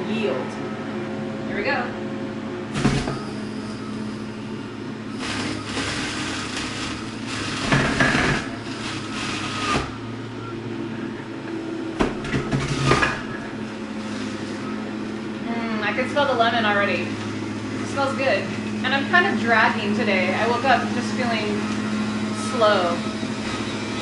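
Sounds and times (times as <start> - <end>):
juicer motor humming: 0.0 - 24.0.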